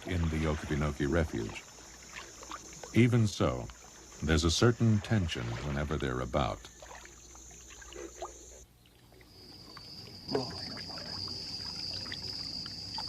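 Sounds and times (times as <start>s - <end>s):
paddle dipping in water: 0.0s - 13.0s.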